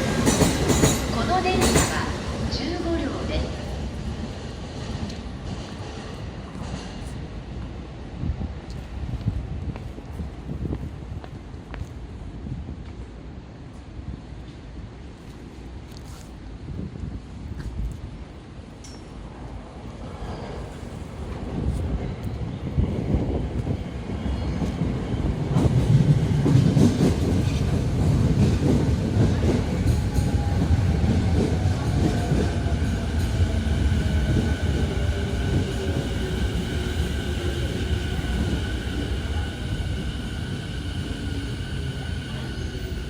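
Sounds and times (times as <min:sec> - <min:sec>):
train rumble: 0:00.0 - 0:43.0.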